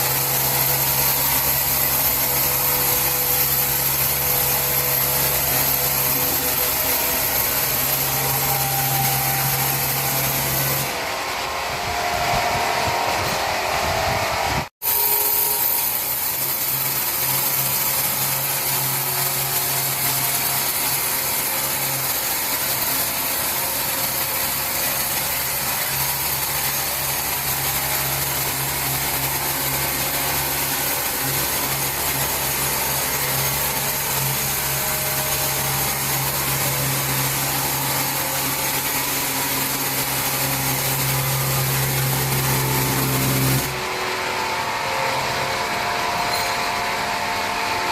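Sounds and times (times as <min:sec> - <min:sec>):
power saw running: 0:00.0 - 0:47.9.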